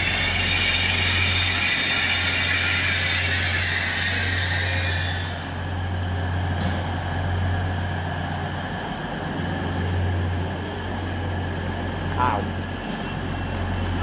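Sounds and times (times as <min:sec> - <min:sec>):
train engine drone: 0:00.0 - 0:14.0.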